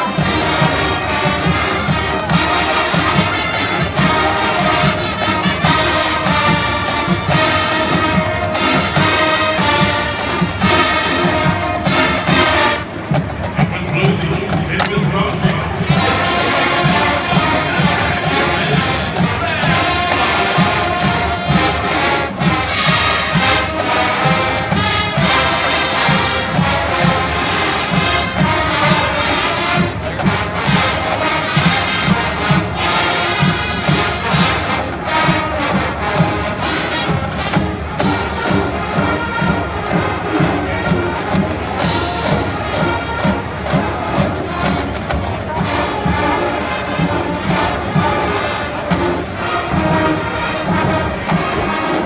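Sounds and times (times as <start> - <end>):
crowd noise: 0.0 - 52.0
driving drum beat: 0.0 - 52.0
marching band brass: 0.0 - 52.0.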